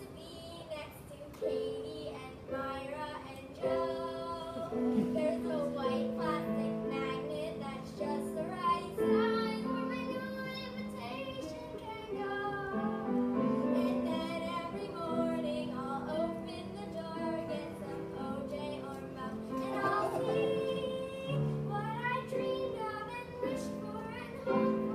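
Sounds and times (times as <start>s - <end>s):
girl singing: 0.0s - 24.9s.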